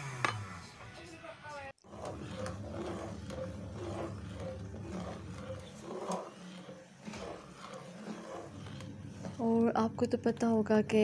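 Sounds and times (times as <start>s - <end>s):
metal spoon scraping pot: 1.8s - 11.0s.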